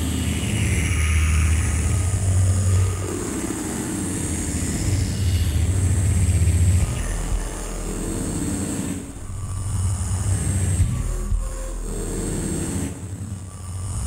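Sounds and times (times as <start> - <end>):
loud low electronic drone: 0.0 - 14.0.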